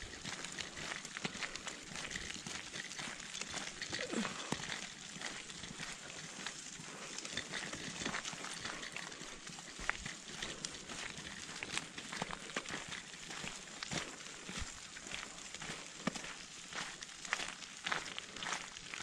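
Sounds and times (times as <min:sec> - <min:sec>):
footsteps crunching on gravel: 0:00.0 - 0:19.0.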